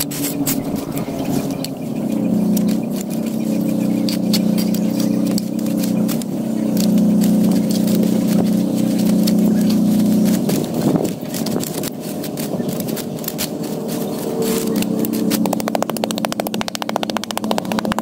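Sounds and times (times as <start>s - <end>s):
small electric motor humming: 0.0s - 18.0s.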